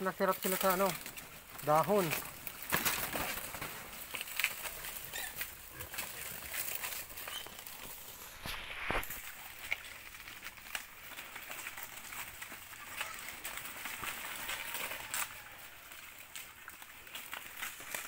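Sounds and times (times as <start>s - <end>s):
pigs chewing leaves: 0.0s - 18.0s.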